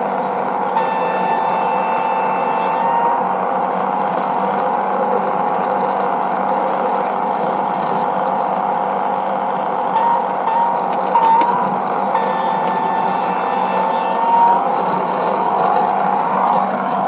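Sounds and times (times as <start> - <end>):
model railbus running with whine: 0.0 - 17.0.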